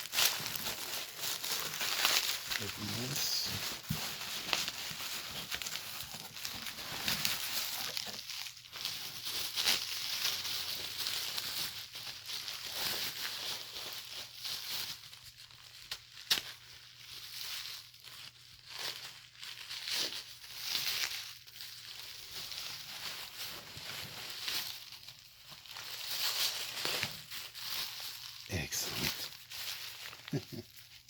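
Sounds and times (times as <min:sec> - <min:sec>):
packaging crinkling and tearing: 0:00.0 - 0:31.0.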